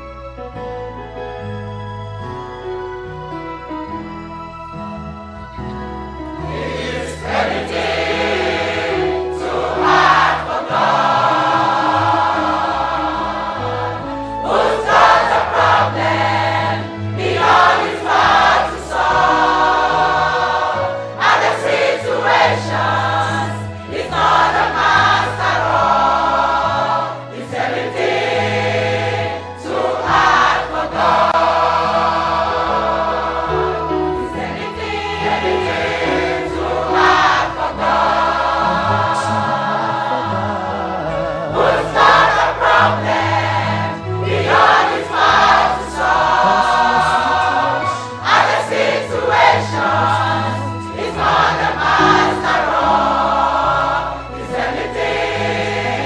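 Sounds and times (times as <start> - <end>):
instrumental accompaniment: 0.0 - 56.0
choir singing gospel: 6.1 - 56.0.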